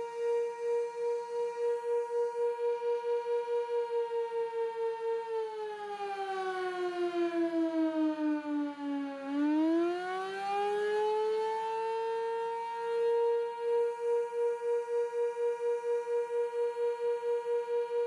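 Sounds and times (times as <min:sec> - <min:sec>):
warning siren: 0:00.0 - 0:18.0.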